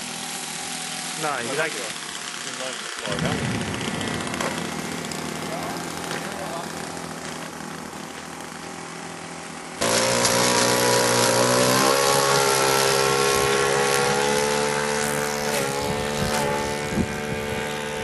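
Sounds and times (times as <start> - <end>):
model plane motor droning: 0.0 - 18.0.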